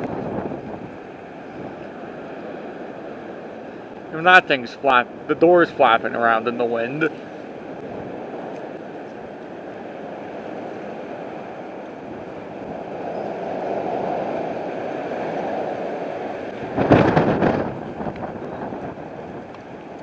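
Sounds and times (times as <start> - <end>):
strong gusting wind on microphone: 0.0 - 5.6, 7.1 - 20.0
wind buffeting microphone: 0.0 - 6.0, 6.6 - 20.0.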